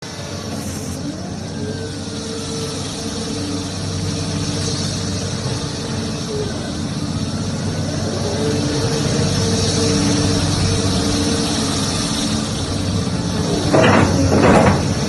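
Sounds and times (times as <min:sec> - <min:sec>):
excavator diesel engine running: 0:00.0 - 0:15.0
held whine: 0:00.0 - 0:15.0.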